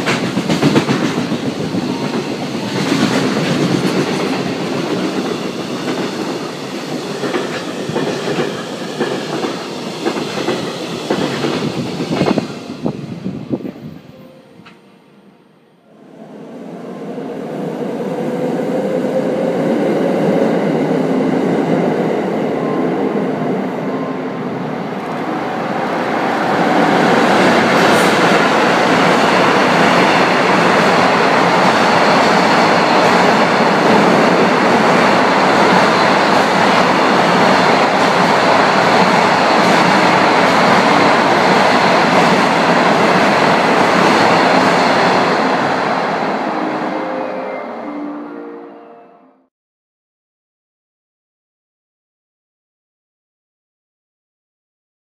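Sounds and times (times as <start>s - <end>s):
freight train passing: 0.0s - 49.5s.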